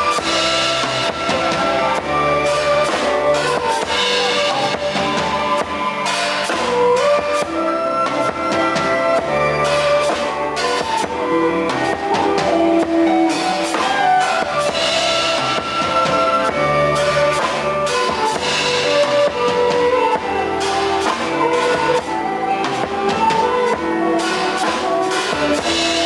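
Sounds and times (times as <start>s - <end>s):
drums: 0.0s - 26.0s
guitar melody: 0.0s - 26.0s.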